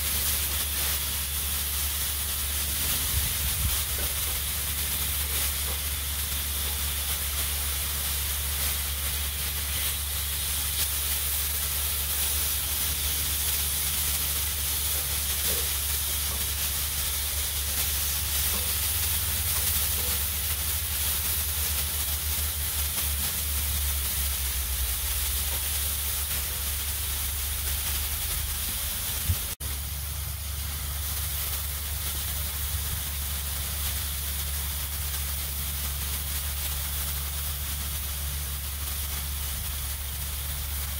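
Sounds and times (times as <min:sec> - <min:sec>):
steak sizzling on a griddle: 0:00.0 - 0:40.9.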